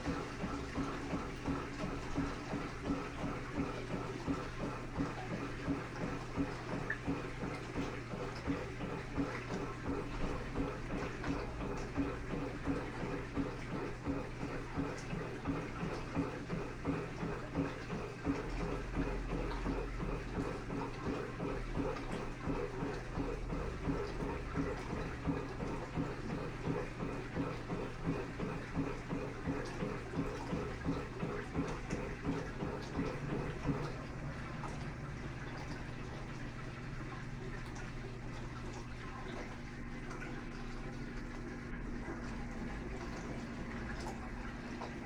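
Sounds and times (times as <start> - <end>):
washing machine water sloshing: 0.0 - 45.0.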